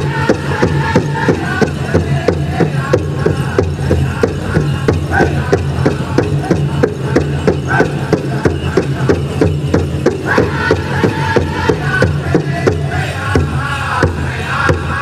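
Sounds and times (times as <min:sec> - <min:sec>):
big drum fast beat: 0:00.0 - 0:15.0
people singing: 0:00.0 - 0:15.0.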